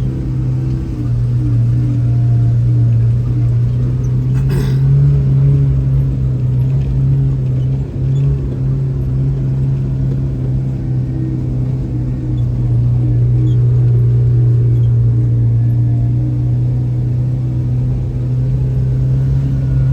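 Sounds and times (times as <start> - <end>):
vehicle engine droning in cab: 0.0 - 19.9.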